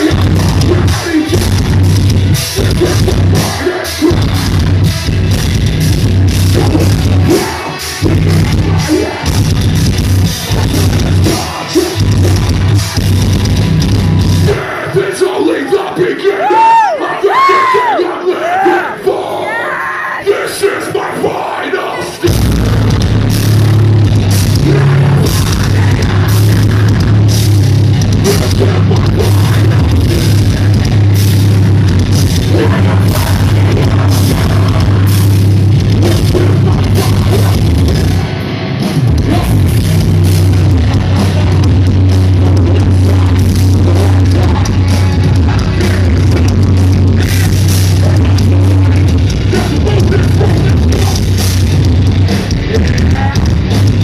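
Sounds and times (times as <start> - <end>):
metalcore band playing live: 0.0 - 54.0.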